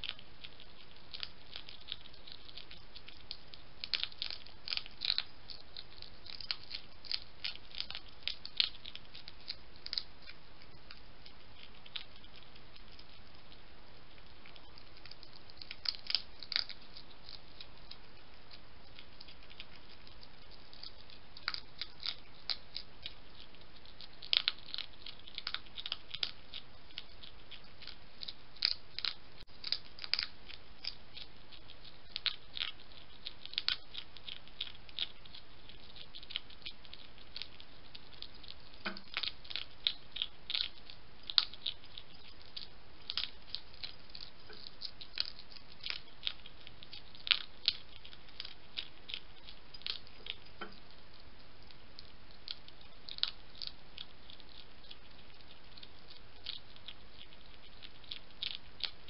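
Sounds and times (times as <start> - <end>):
hedgehog chewing crunches: 0.0 - 59.0.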